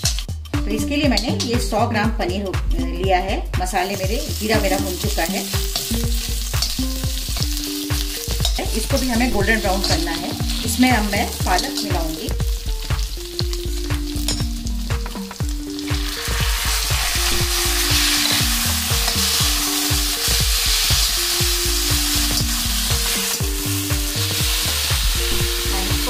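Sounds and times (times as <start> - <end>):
background music: 0.0 - 26.0
spinach sizzling in hot oil: 3.7 - 26.0.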